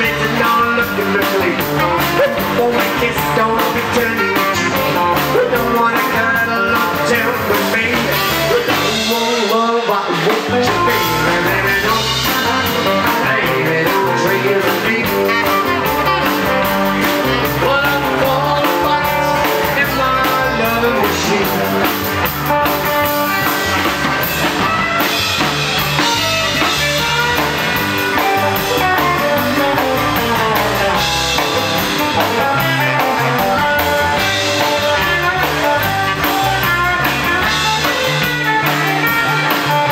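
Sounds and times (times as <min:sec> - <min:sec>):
saxophone: 0:00.0 - 0:09.4, 0:10.2 - 0:39.9
person singing: 0:00.0 - 0:39.9
rockabilly band playing: 0:00.0 - 0:39.9.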